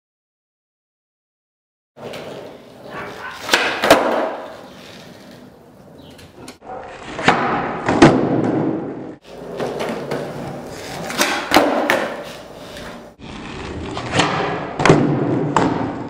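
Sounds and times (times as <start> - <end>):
skateboard tail clacks and landings: 2.0 - 16.0
skateboard wheels rolling on concrete: 2.0 - 16.0.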